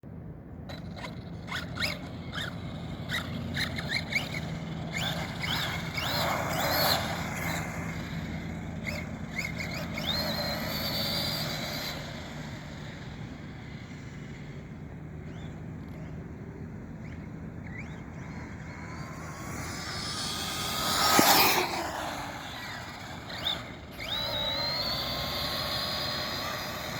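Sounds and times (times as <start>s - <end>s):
electric motor whining: 0.7s - 26.9s.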